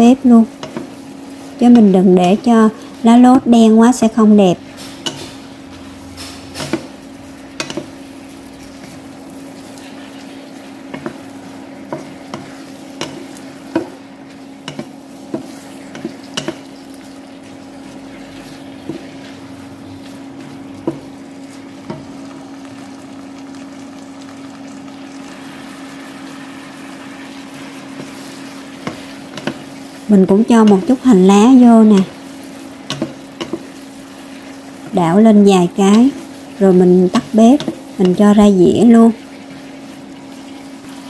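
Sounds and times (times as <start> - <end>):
food sizzling: 0.0 - 41.0
spatula knocking and scraping wok: 0.4 - 3.2, 4.6 - 22.5, 26.7 - 41.0.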